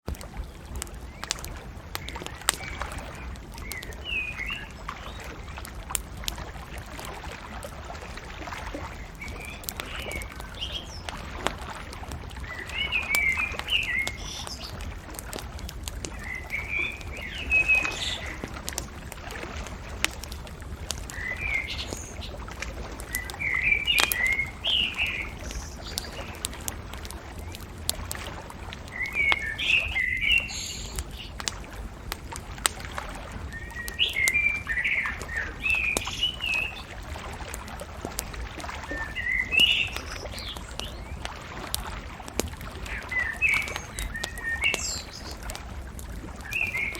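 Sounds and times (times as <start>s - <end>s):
bonfire crackling and popping: 0.0s - 46.9s
songbirds chirping: 0.2s - 46.9s.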